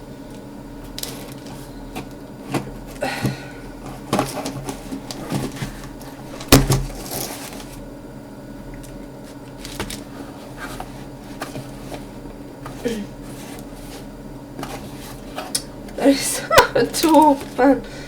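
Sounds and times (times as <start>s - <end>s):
packaging rustling and scraping: 0.8s - 7.9s, 8.8s - 16.1s, 16.8s - 17.8s.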